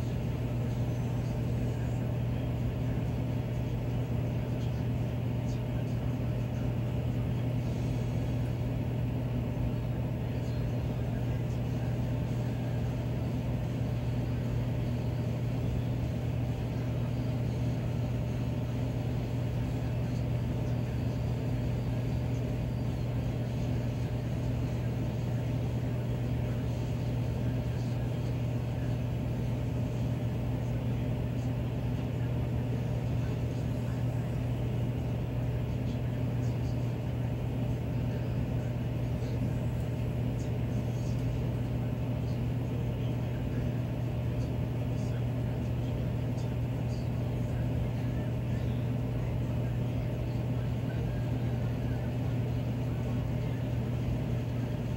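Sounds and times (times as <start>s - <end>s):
furnace blower humming: 0.0s - 54.9s.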